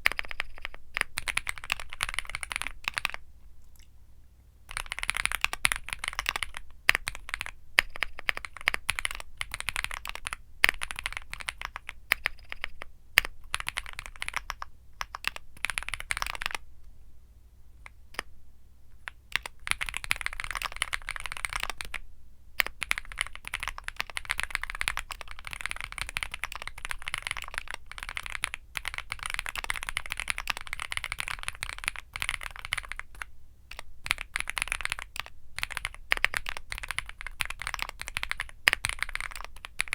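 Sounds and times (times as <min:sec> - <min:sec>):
mechanical keyboard typing: 0:00.0 - 0:03.2, 0:04.7 - 0:16.6, 0:19.0 - 0:22.0, 0:22.6 - 0:39.9.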